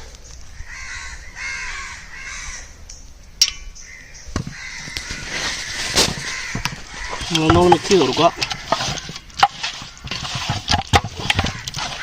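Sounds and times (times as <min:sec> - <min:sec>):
bird calling: 0:00.2 - 0:10.6, 0:11.2 - 0:12.0.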